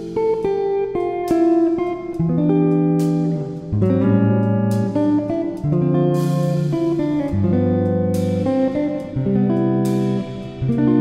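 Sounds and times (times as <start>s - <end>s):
background music sustained notes: 0.0s - 11.0s.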